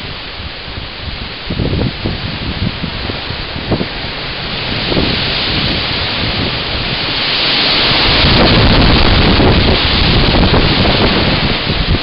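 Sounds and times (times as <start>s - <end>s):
hurricane wind: 0.0s - 12.0s
low rumble of gust: 0.0s - 12.0s
wind-driven rain: 0.0s - 12.0s.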